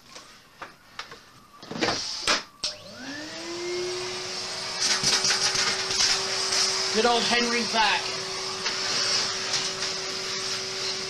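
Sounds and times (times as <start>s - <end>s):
vacuum cleaner motor whine: 0.1s - 11.0s.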